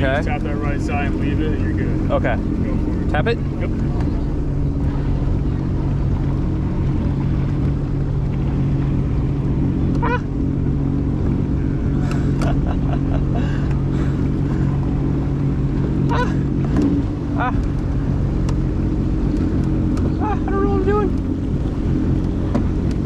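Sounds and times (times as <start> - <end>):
jet ski engine idling: 0.0 - 23.0.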